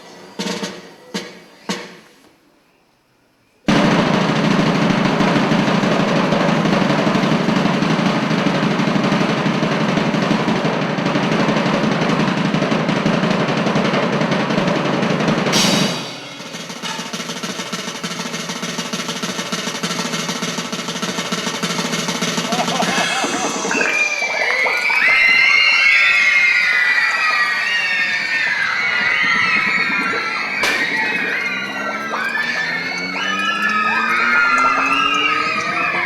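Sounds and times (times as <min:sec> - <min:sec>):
snare drum roll: 0:03.7 - 0:36.0.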